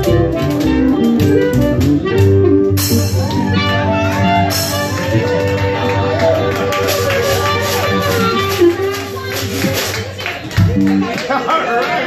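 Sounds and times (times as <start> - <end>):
upright bass plucked: 0.0 - 9.9, 10.5 - 11.2
washboard scraping rhythm: 0.0 - 11.0
guitar: 0.0 - 11.4.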